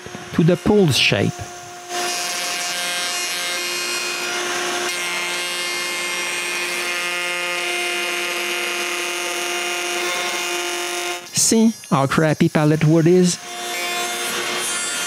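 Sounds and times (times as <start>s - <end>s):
router high whine: 0.0s - 15.0s.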